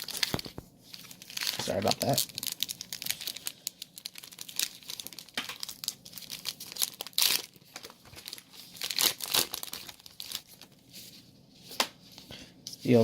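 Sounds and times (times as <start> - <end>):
foil wrapper crinkling and tearing: 0.0 - 10.8.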